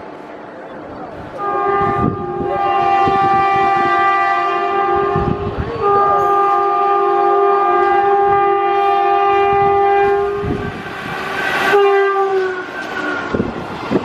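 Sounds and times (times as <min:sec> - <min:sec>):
train rumbling past: 0:00.0 - 0:14.0
locomotive air horn: 0:01.4 - 0:13.4.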